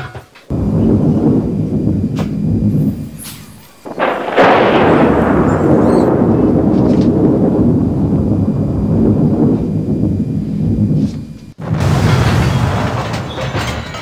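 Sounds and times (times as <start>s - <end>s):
thunder crack and rumble: 0.5s - 14.0s.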